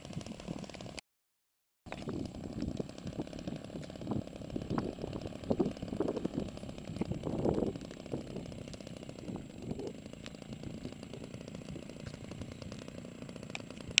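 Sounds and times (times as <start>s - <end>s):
light aircraft engine running: 0.0s - 1.0s, 1.9s - 14.0s.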